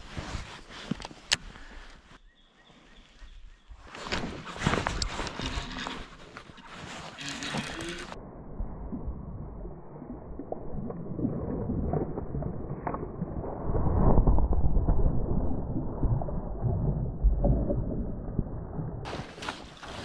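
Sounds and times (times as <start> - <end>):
muffled water splashing: 3.8 - 20.0.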